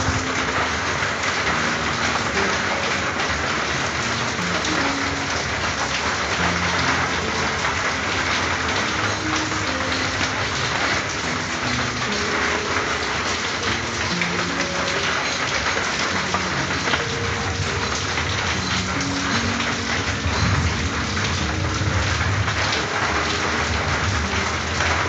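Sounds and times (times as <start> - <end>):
rain on a tin roof: 0.0 - 25.0.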